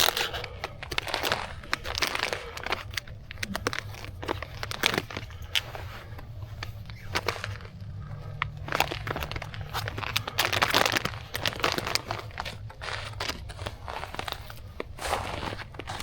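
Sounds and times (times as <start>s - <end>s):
kindling crinkling and crunching: 0.0s - 16.0s.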